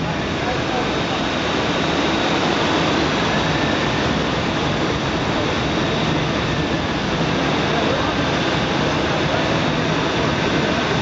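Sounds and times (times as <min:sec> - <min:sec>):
marine engines droning: 0:00.0 - 0:11.0.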